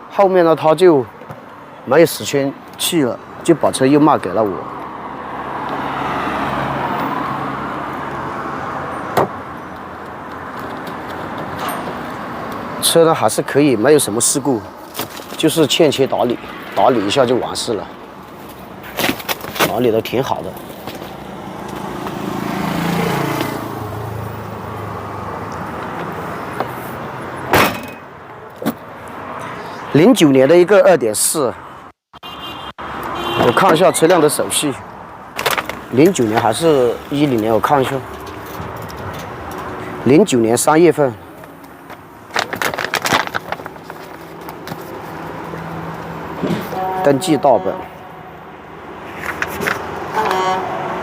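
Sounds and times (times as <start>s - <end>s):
motor vehicle rumbling: 0.0s - 51.0s.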